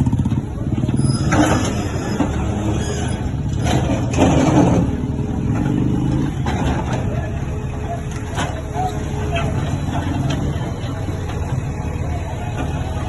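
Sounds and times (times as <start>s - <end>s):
heavy machinery diesel engine running: 0.0s - 13.0s.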